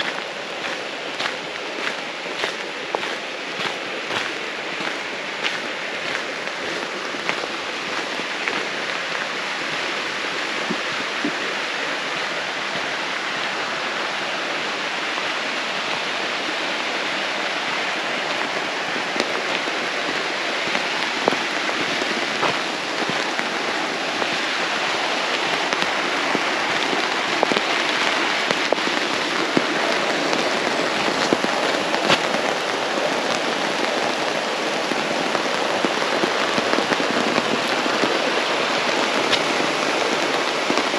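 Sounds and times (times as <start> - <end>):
raindrops ticking on a surface: 0.0 - 40.9
steady rain falling: 0.0 - 40.9.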